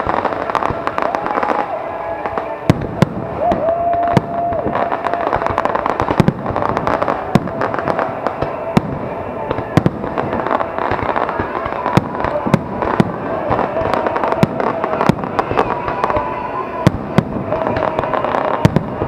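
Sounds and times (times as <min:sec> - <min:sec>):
fireworks bursting: 0:00.0 - 0:19.0
fireworks crackling: 0:00.0 - 0:19.0.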